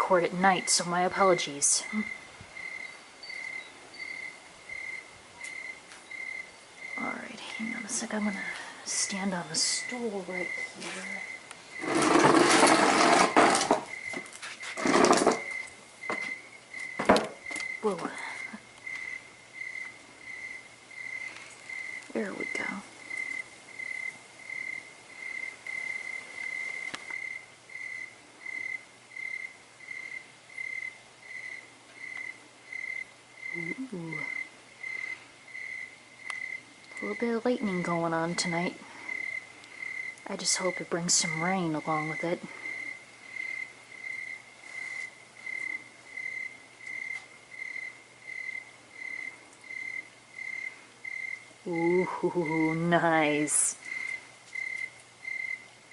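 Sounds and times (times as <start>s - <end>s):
cricket chirping: 0.4s - 55.9s.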